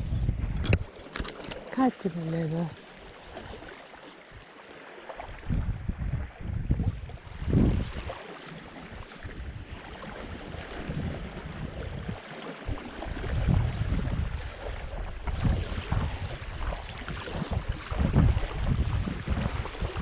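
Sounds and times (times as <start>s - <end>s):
wind buffeting microphone: 0.0s - 2.8s, 5.2s - 8.2s, 8.8s - 20.0s.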